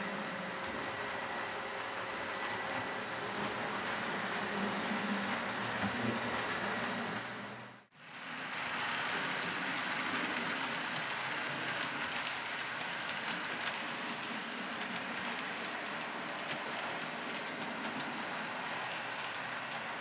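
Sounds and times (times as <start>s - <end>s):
model train whirring: 0.0s - 20.0s
wheels clicking over rails: 0.0s - 20.0s.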